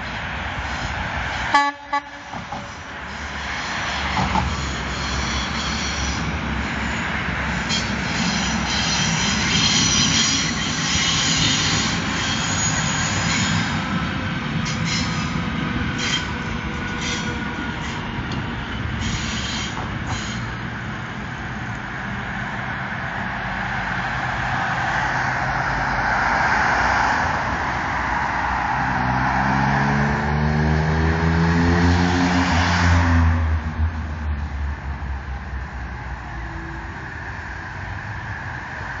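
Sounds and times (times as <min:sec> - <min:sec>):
falling whine of slowing train: 0:00.0 - 0:39.0
train running on rails: 0:00.0 - 0:39.0.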